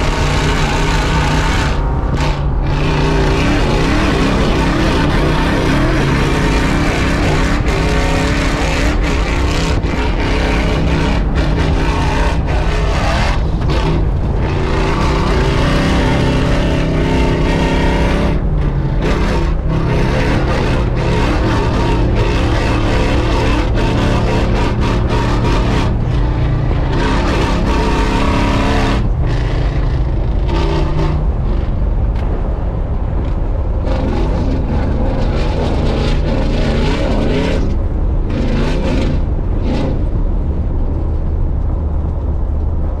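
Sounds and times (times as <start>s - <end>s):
truck engine revving: 0.0s - 43.0s
wind rumble on microphone: 0.0s - 43.0s.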